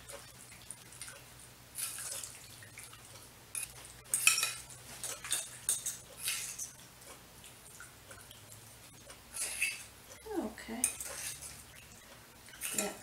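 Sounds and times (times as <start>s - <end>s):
wet stirring and scraping in a dish: 0.0s - 13.0s.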